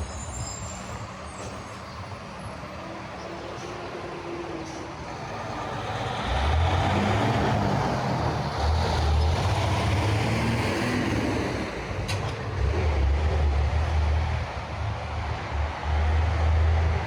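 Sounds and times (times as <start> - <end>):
street traffic: 0.0 - 17.0
vehicle engine rumbling: 0.0 - 17.0.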